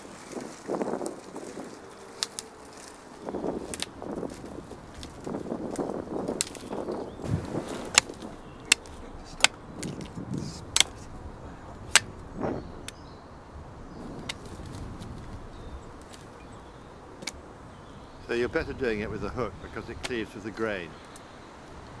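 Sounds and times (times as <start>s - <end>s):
branches rustling: 0.0s - 22.0s.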